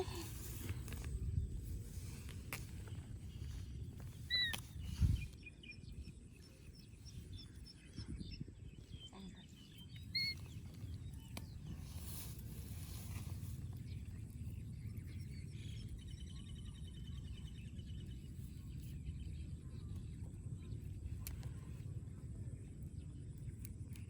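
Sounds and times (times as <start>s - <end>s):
faint high twittering: 0.0s - 21.9s.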